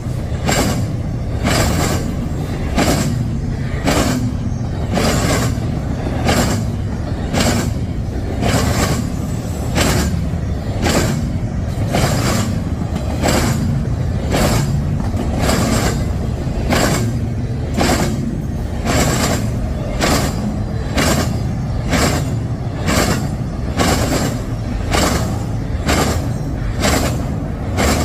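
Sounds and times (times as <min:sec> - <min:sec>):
low rumble of rolling cars: 0:00.0 - 0:28.0
train wheels clacking on crossing: 0:00.0 - 0:28.0.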